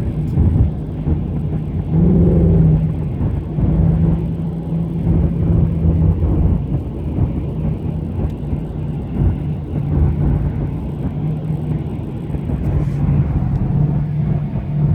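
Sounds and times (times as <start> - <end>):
car engine and road drone: 0.0 - 14.9.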